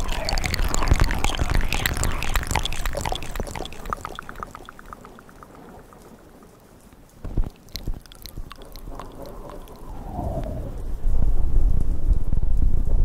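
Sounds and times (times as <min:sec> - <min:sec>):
wet mouth clicks and smacks: 0:00.0 - 0:10.6.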